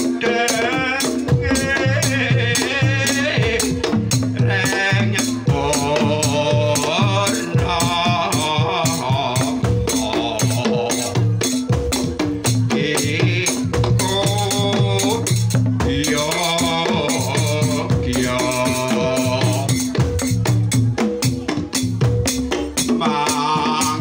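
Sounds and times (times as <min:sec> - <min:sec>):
gamelan ensemble playing: 0:00.0 - 0:23.8.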